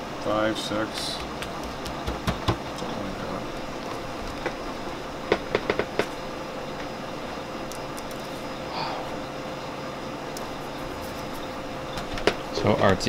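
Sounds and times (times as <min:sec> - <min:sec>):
kitchen machinery hum: 0:00.0 - 0:13.0.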